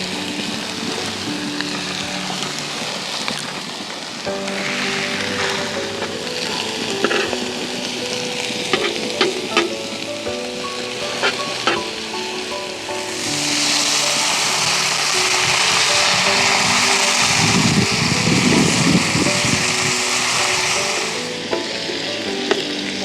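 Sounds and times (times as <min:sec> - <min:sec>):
food frying in hot oil: 0:00.0 - 0:23.0.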